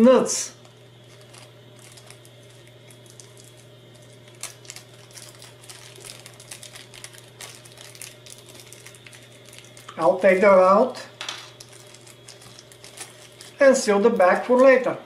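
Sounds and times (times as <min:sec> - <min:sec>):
plastic bag crinkling: 0:00.6 - 0:10.6, 0:11.2 - 0:15.0.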